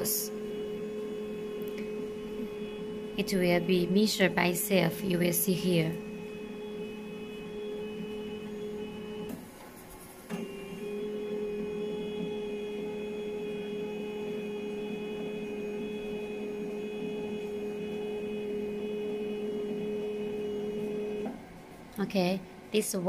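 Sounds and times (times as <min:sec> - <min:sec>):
machine motor whining: 0:00.0 - 0:09.6, 0:10.2 - 0:22.0.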